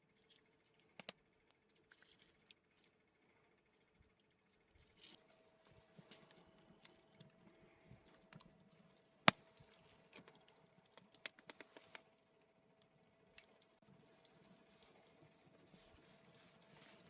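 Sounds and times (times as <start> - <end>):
faint clicks and crackles: 0.0 - 17.0.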